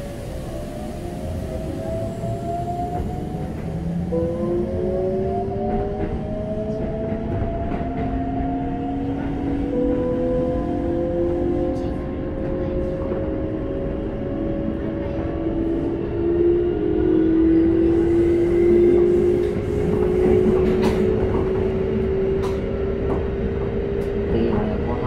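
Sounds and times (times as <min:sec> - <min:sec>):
rail rumble: 0:00.0 - 0:25.0.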